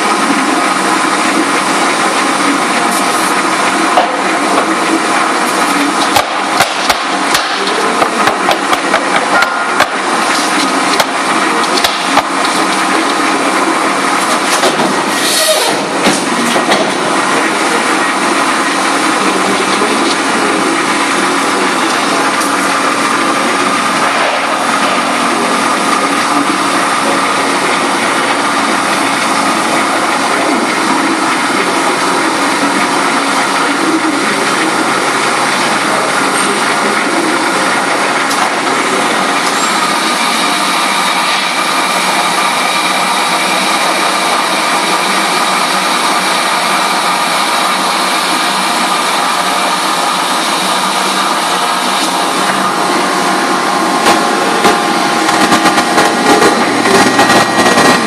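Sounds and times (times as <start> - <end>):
loud machinery drone: 0.0 - 58.0.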